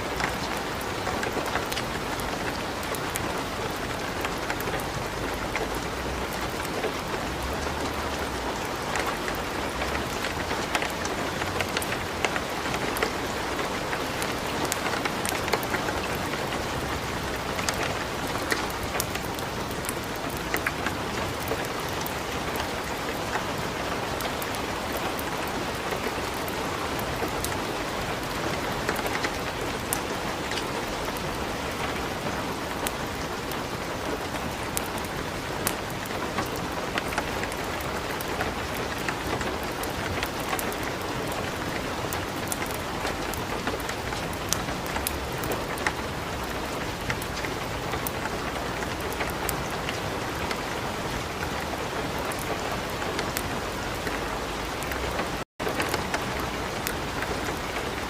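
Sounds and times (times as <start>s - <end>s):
light rain falling: 0.0s - 58.0s
wood fire crackling: 0.1s - 23.5s, 24.1s - 31.2s, 32.6s - 58.0s.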